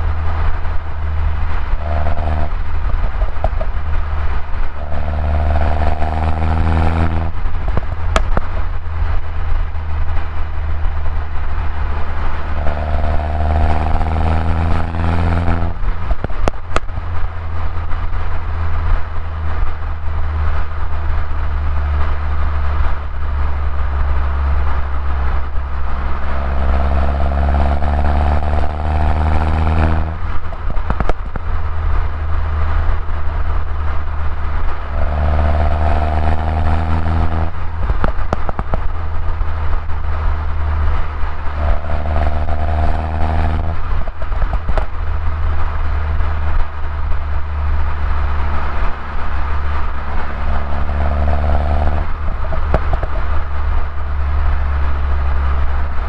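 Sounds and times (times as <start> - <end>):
car engine accelerating: 0.0 - 56.0
exhaust crackles: 0.0 - 56.0.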